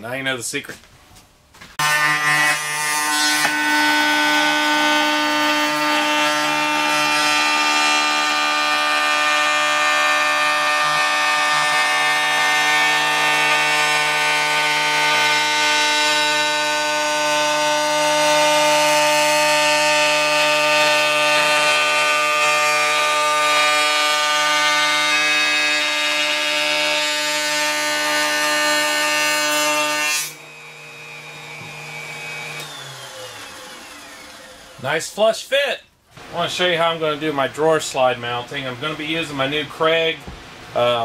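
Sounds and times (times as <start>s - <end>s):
router motor whine cutting wood: 1.8s - 34.9s.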